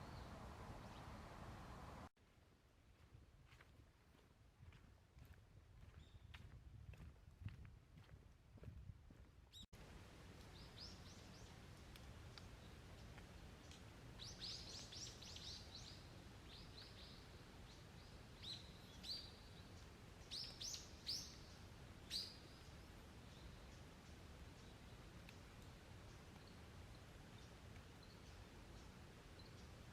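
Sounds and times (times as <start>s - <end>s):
faint low outdoor hum: 0.0s - 6.0s, 9.8s - 29.9s.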